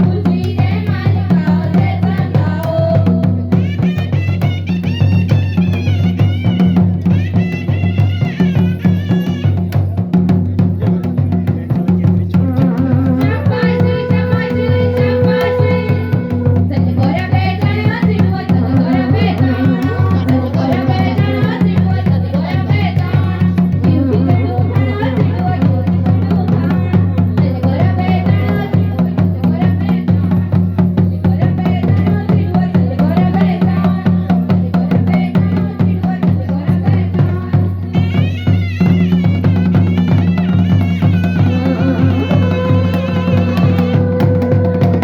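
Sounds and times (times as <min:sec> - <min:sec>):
driving drum beat: 0:00.0 - 0:45.0.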